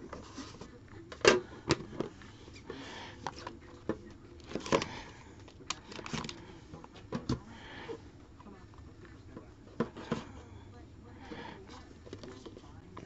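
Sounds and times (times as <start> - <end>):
soft rustling of packaging: 0.0 - 13.0.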